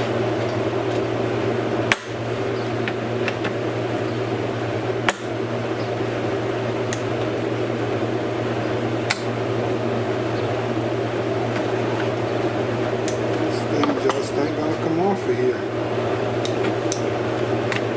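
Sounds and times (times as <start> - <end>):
steady mechanical hum: 0.0 - 17.9.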